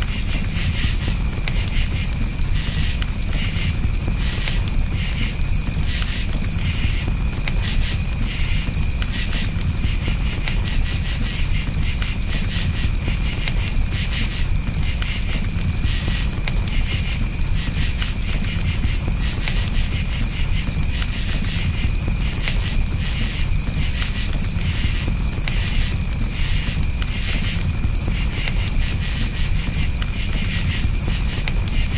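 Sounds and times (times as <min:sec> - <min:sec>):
campfire rumbling and crackling: 0:00.0 - 0:31.9
crickets chirping: 0:00.0 - 0:31.9.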